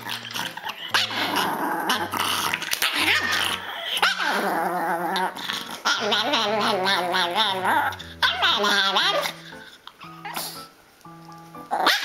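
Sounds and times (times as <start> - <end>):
small dog growling and snarling: 0.0 - 9.6
background music: 0.0 - 12.0.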